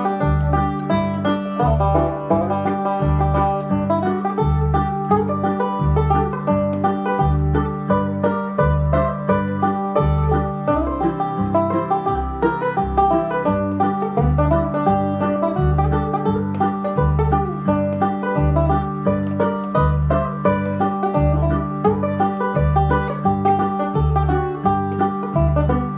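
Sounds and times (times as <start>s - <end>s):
banjo picking: 0.0s - 25.9s.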